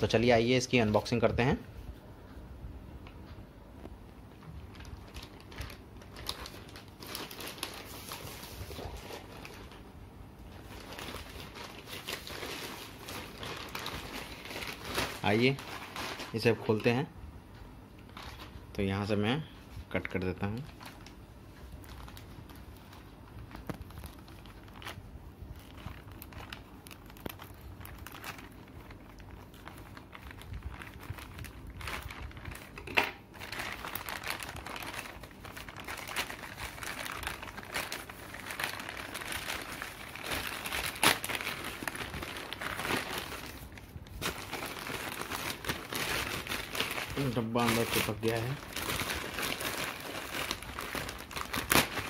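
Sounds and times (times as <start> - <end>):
plastic bag crinkling: 4.4 - 17.0, 18.0 - 18.9, 20.4 - 52.0.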